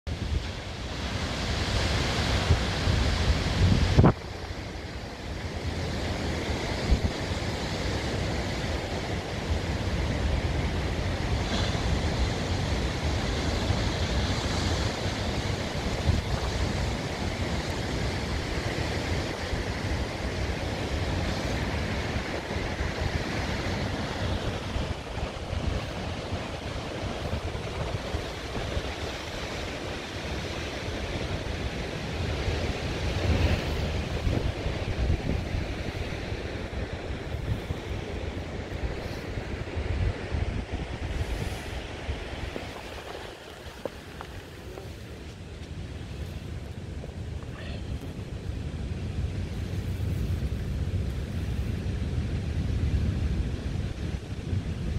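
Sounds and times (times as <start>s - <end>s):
ocean surf rushing: 0.1s - 54.9s
wind buffeting microphone: 0.1s - 54.9s.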